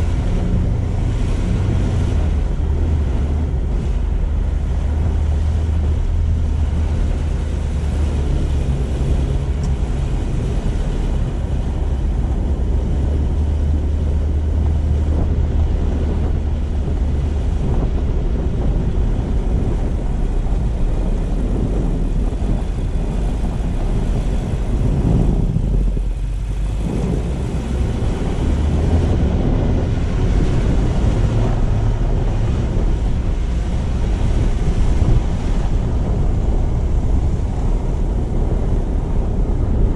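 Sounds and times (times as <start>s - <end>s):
car engine: 0.0s - 39.9s
road rumble: 0.0s - 39.9s
tyre and wind noise: 0.0s - 39.9s.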